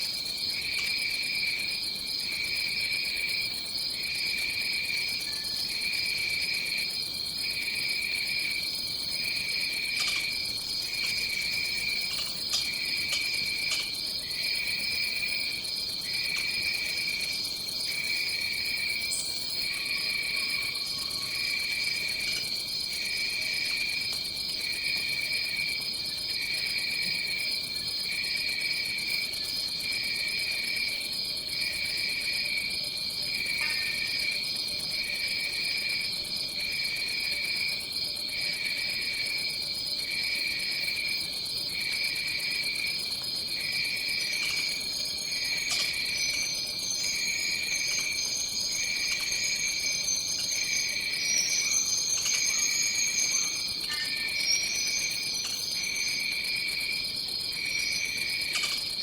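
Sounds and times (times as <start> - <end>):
pulsing lower insect trill: 0.0 - 31.0, 33.0 - 59.0
steady high insect trill: 0.0 - 59.0.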